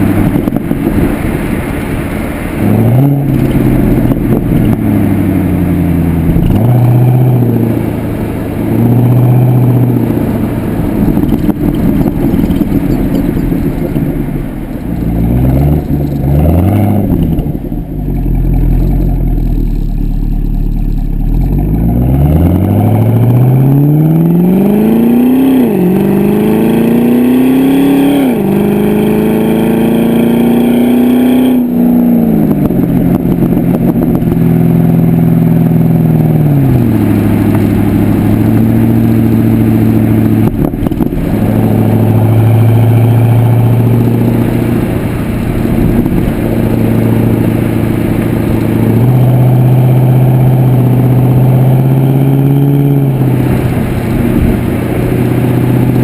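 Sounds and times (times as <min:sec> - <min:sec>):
car engine revving through exhaust: 0:00.0 - 0:56.0.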